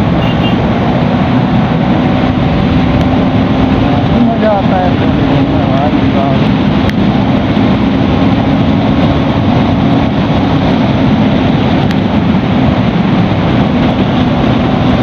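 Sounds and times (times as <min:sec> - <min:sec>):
motorcycle engine running: 0:00.0 - 0:15.0
road noise: 0:00.0 - 0:15.0
wind rush: 0:00.0 - 0:15.0.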